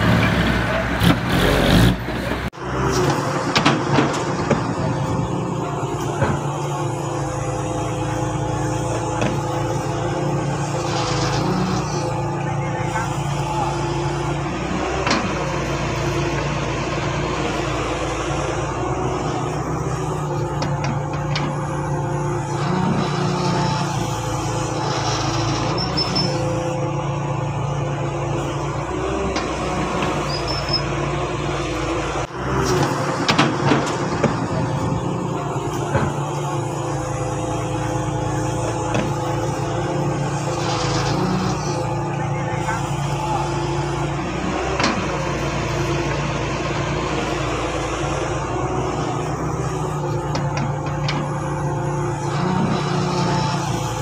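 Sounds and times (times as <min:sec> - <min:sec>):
diesel excavator running: 0:00.0 - 0:54.0.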